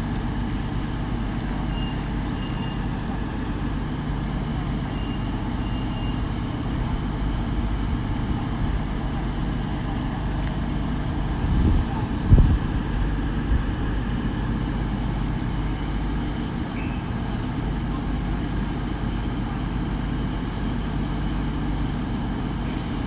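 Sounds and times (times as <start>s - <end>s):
diesel train engine running: 0.0s - 23.0s.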